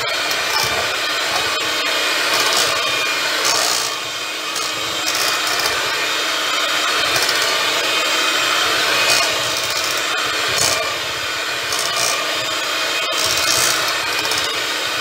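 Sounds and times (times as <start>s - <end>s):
beaters rasping against metal pot: 0.0s - 15.0s
electric hand mixer whipping: 0.0s - 15.0s.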